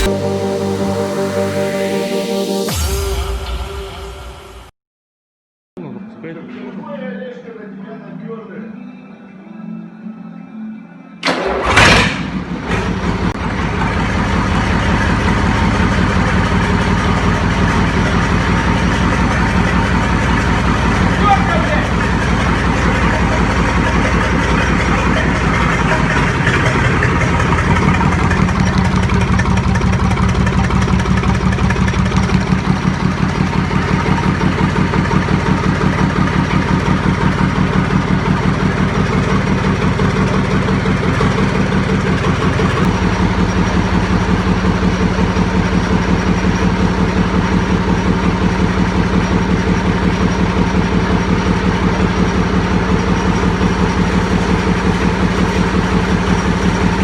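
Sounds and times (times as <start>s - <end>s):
diesel engine clatter: 11.2s - 57.0s.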